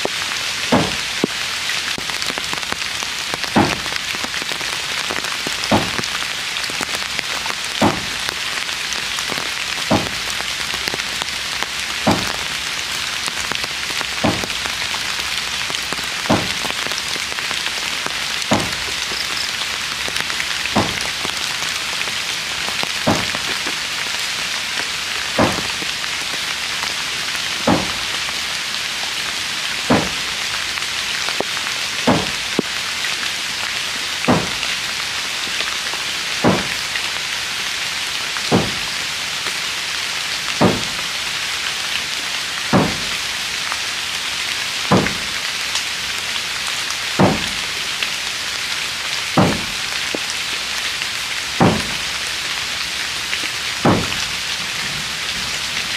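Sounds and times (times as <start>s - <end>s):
rain on roof and ground: 0.0s - 55.9s.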